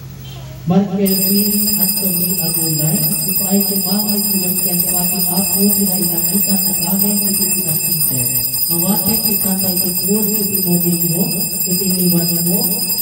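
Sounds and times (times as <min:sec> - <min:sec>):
high-pitched electronic tones: 0:01.1 - 0:13.0.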